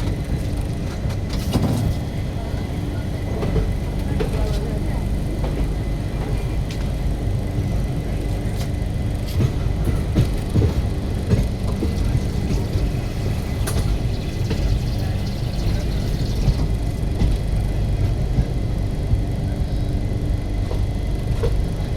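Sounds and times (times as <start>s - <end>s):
train wheels rumbling: 0.0s - 21.9s.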